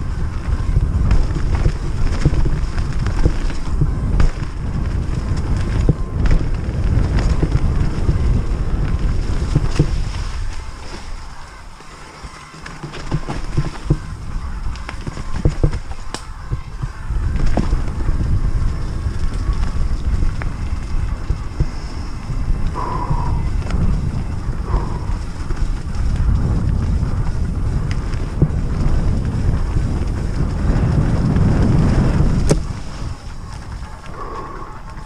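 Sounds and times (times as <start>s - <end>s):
bike rumbling on dirt trail: 0.0s - 35.0s
wind buffeting microphone: 0.0s - 35.0s.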